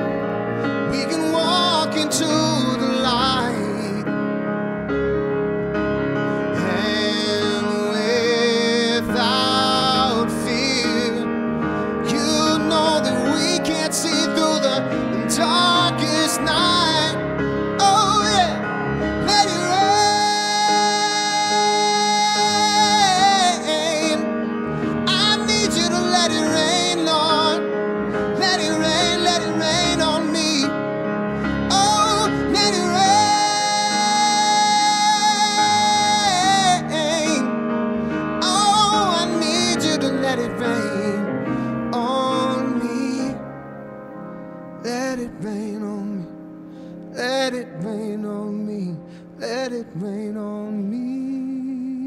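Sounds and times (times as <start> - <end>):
man singing soulfully: 0.0 - 4.8, 5.9 - 52.0
grand piano chords: 0.0 - 52.0.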